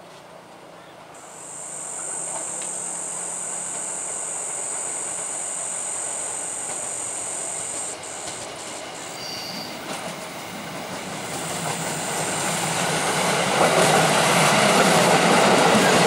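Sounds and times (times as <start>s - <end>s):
electric train running: 1.2s - 16.0s
high-pitched whine: 1.2s - 16.0s.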